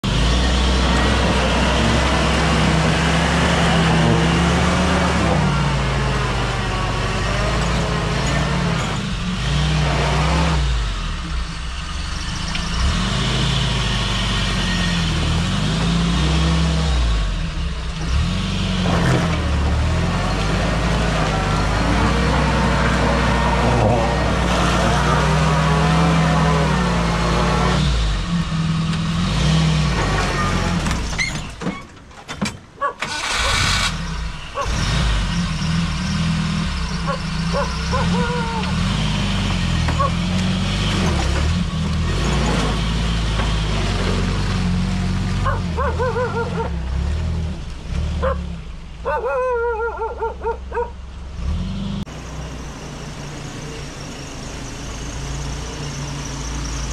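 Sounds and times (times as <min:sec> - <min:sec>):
jeep engine revving: 0:00.0 - 0:31.3, 0:33.0 - 0:56.9.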